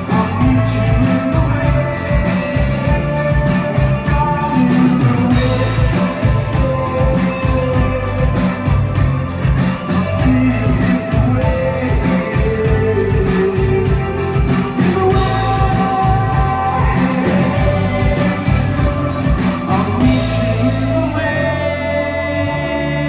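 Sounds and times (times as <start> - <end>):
drums keeping a steady beat: 0.0 - 22.1
guitar: 0.0 - 23.0
person singing: 0.0 - 23.0.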